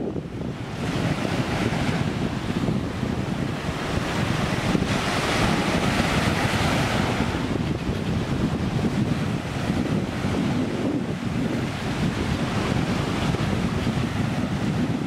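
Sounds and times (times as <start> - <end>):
sea waves breaking: 0.0 - 15.0
wind buffeting microphone: 0.0 - 15.0.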